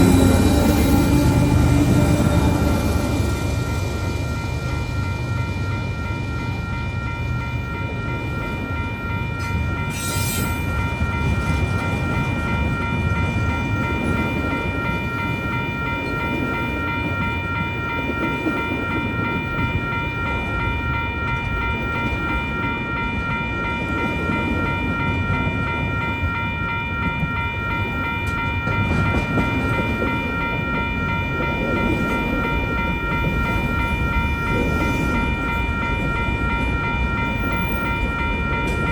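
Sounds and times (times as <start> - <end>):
crossing warning bell ringing: 0.0 - 38.9
freight train rumbling: 0.0 - 38.9.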